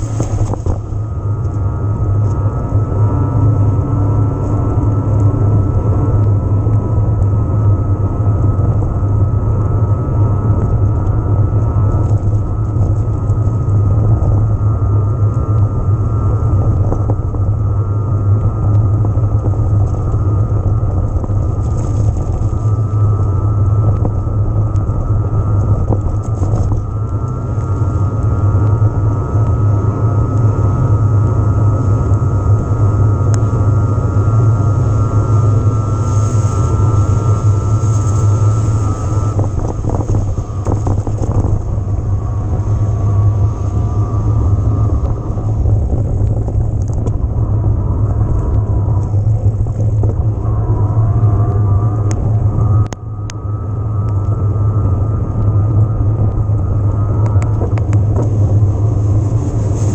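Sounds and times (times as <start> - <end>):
bike tyre roar: 0.0 - 59.9
wind noise: 0.0 - 59.9.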